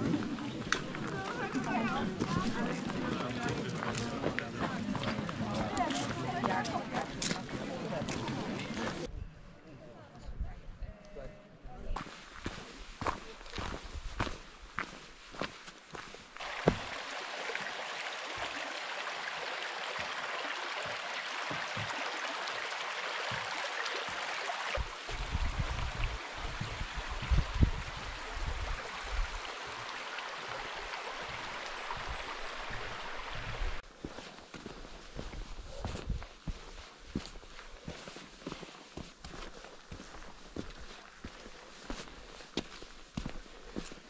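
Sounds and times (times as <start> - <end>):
stream rushing over stones: 0.0 - 9.1, 15.9 - 44.0.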